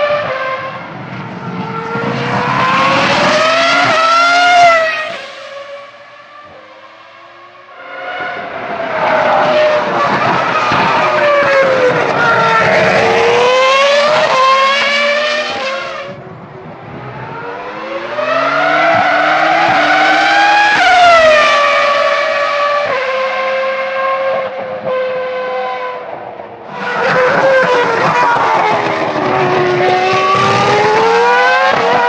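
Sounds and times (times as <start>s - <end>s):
racing car engine at high revs: 0.0s - 32.0s.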